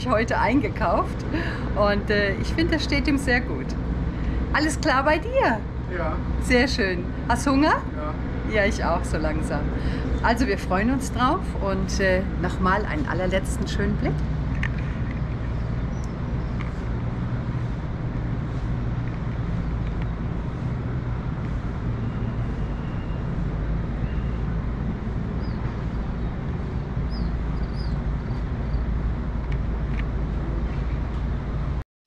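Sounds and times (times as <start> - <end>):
low rumble of city traffic: 0.0 - 31.8.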